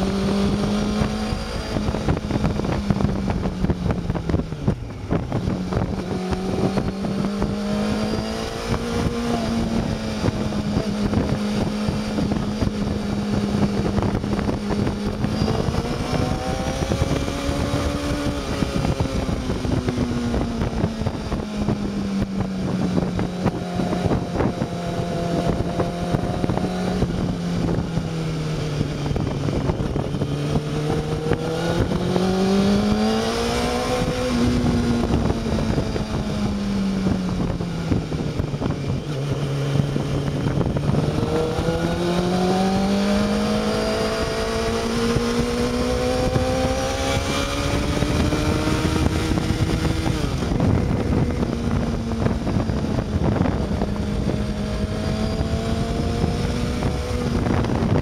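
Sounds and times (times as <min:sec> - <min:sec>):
motorcycle engine accelerating: 0:00.0 - 0:58.0
wind buffeting: 0:00.0 - 0:58.0.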